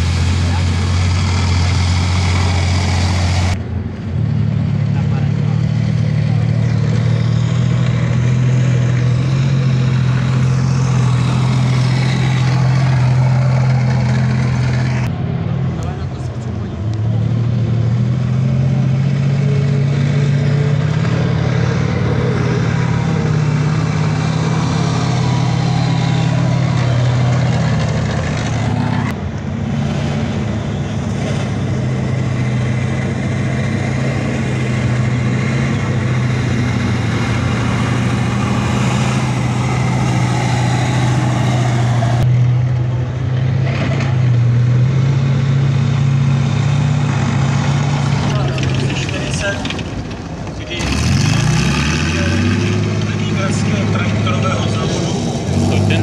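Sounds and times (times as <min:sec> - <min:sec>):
tracked military vehicles driving past: 0:00.0 - 0:56.0
tracked vehicle passing close: 0:00.0 - 0:56.0.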